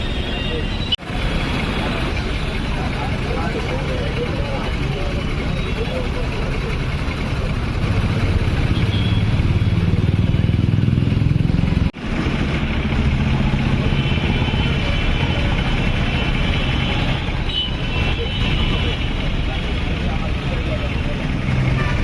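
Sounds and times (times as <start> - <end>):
heavy engine rumbling: 0.0 - 22.0
road traffic: 0.0 - 22.0.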